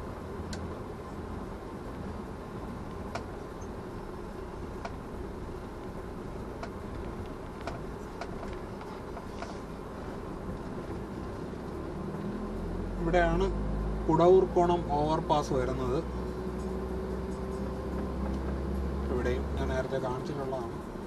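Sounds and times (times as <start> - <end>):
car driving road noise: 0.0 - 21.0.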